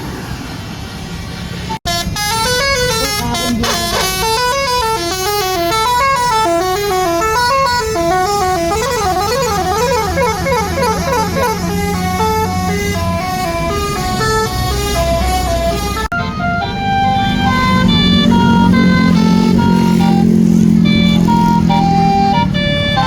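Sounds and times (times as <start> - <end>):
bus engine humming: 0.0 - 23.0
musical bus horn jingle: 1.8 - 23.0.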